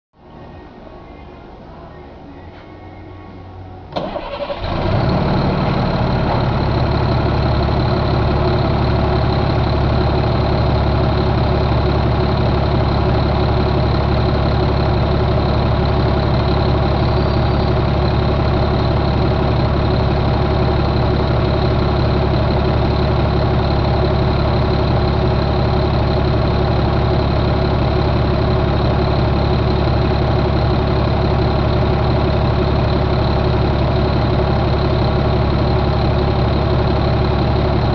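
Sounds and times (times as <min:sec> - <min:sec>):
diesel engine idling: 0:03.4 - 0:37.9.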